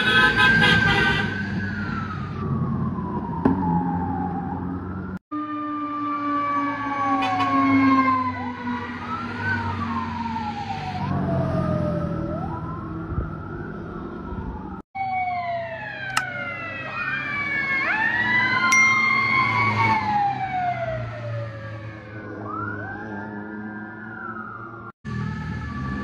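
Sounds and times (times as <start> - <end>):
wailing sirens: 0.0 - 26.0.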